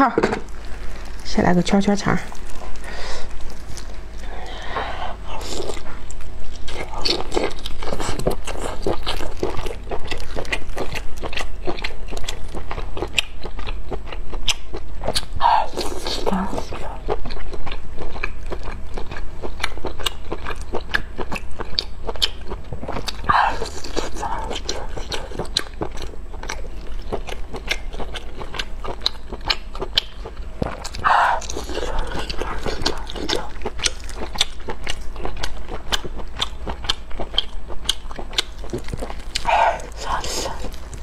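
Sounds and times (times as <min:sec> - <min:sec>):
biting and wet chewing: 0:00.2 - 0:41.0.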